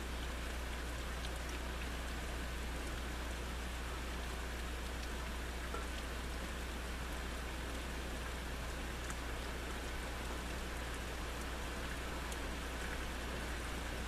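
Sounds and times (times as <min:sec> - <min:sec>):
rain drop ticks: 0:00.0 - 0:14.0
steady rain hiss: 0:00.0 - 0:14.0.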